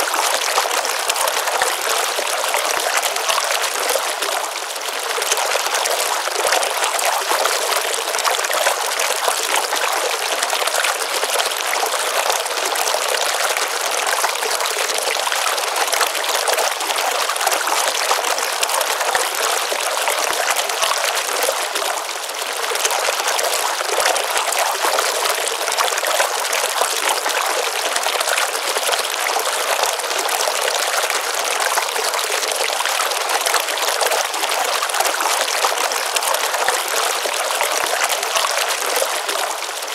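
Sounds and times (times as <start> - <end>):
stream splashing into pond: 0.0 - 39.9.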